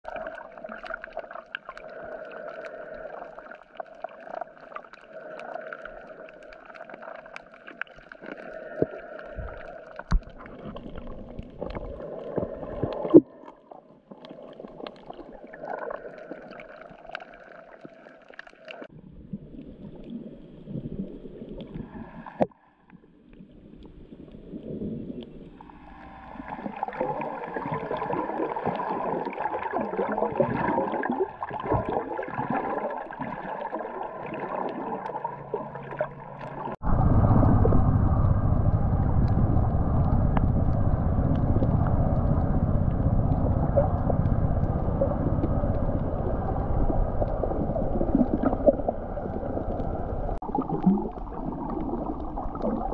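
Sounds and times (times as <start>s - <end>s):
water gurgling: 0.0s - 22.5s, 23.4s - 52.9s
muffled underwater drone: 0.1s - 13.6s, 18.6s - 52.9s.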